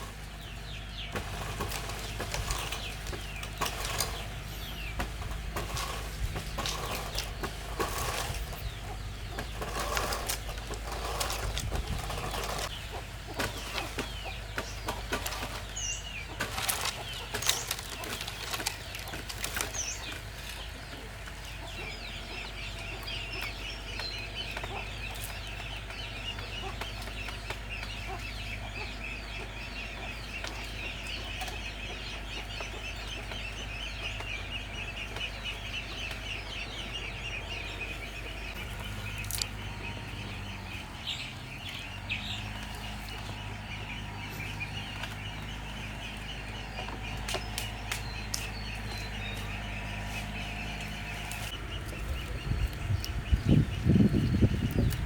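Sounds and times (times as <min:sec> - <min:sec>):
chickens clucking: 0:00.0 - 0:55.0
high chirping chorus: 0:00.0 - 0:55.0.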